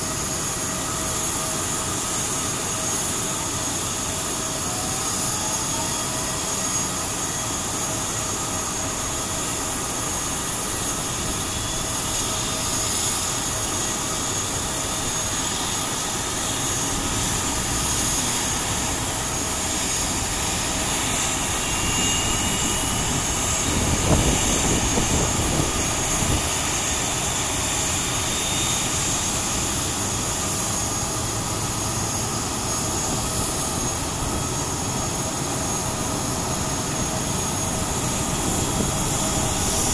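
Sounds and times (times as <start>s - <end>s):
jet turbine whine: 0.0s - 39.9s.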